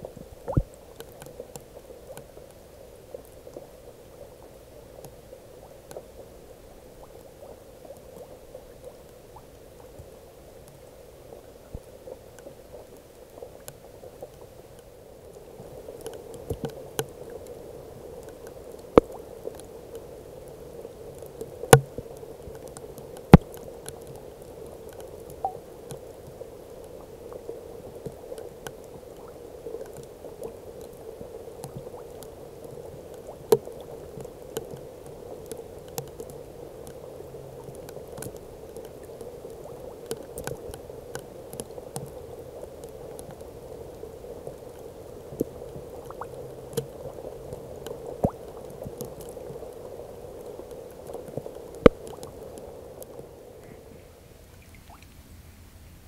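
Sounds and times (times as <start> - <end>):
rain pattering on water: 0.0 - 56.0.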